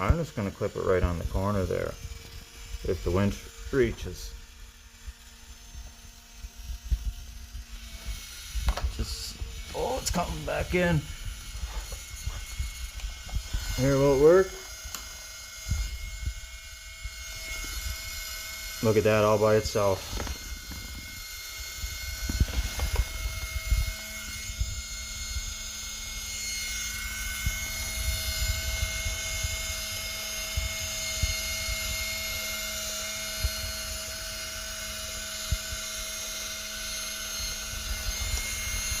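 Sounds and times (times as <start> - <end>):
winch motor whining: 0.0 - 39.0.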